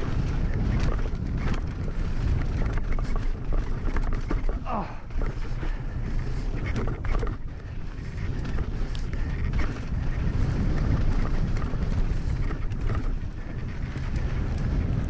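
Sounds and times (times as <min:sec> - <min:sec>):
tyres crunching on gravel: 0:00.0 - 0:13.2
bike clicks and rattles: 0:00.0 - 0:15.0
wind buffeting microphone: 0:00.0 - 0:15.0.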